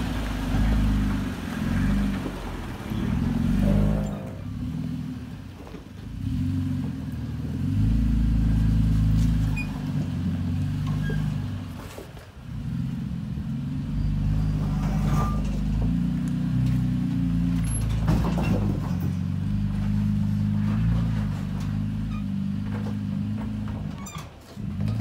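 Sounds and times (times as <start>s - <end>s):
truck engine running low: 0.0s - 25.0s.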